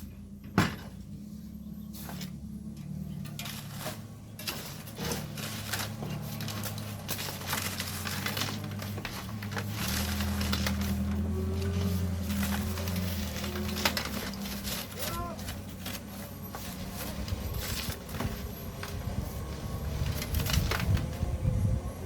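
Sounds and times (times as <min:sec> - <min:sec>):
shovels scraping sand and gravel: 0:01.8 - 0:02.4, 0:03.0 - 0:21.3.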